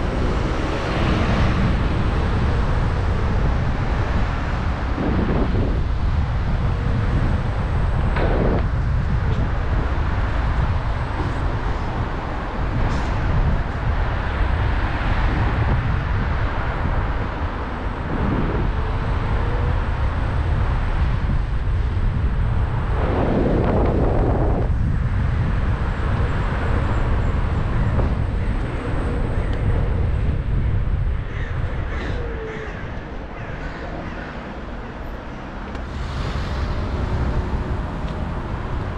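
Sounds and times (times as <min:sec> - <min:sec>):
city traffic: 0:00.0 - 0:38.9
passing vehicles: 0:00.0 - 0:38.9
wind rumble on microphone: 0:00.0 - 0:38.9.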